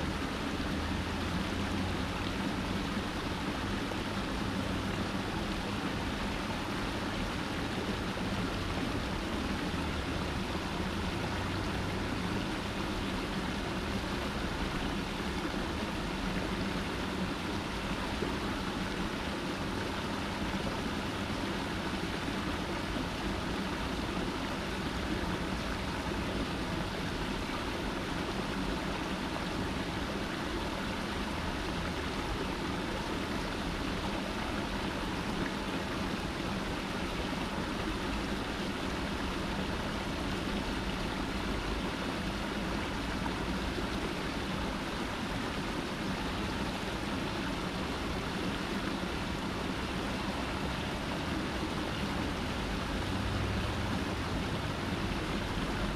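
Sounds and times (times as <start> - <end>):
water rushing over rock cascade: 0.0 - 55.9.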